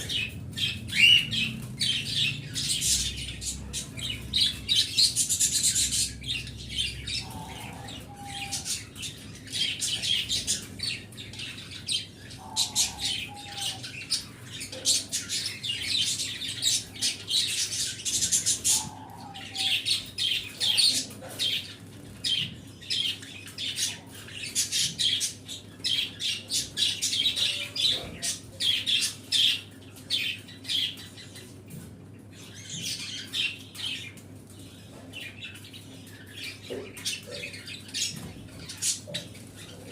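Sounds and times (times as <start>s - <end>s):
pet birds chirping and chattering: 0.0s - 39.9s.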